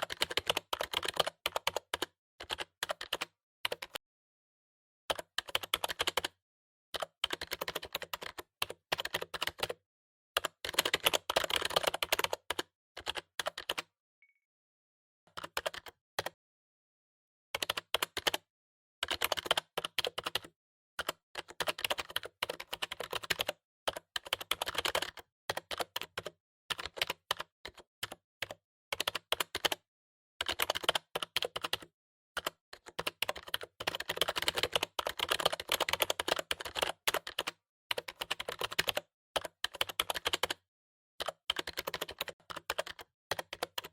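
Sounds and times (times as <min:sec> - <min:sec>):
typing on computer keyboard: 0:00.0 - 0:04.0, 0:05.1 - 0:06.4, 0:07.0 - 0:09.8, 0:10.4 - 0:13.9, 0:15.3 - 0:16.4, 0:17.6 - 0:29.8, 0:30.4 - 0:40.6, 0:41.2 - 0:43.9.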